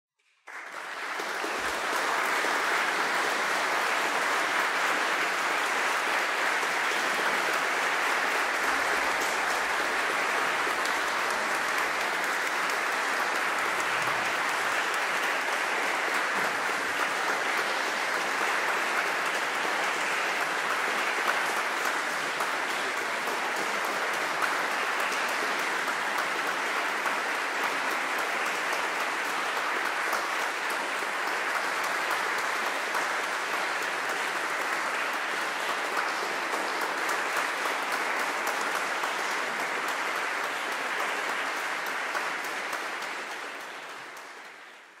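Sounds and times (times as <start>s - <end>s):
audience applauding: 0.4s - 45.0s.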